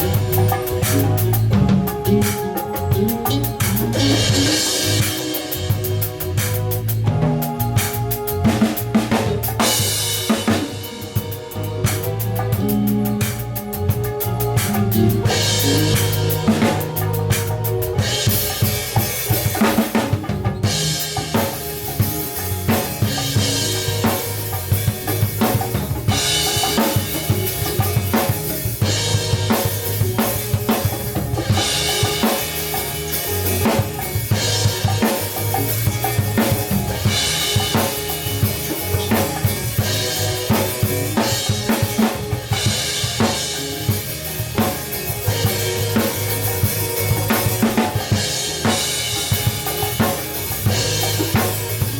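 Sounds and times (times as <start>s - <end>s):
band playing: 0.0s - 51.9s.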